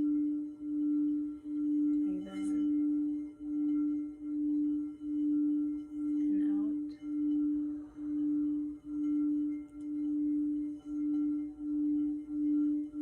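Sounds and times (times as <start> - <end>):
singing bowl low tone: 0.0 - 13.0.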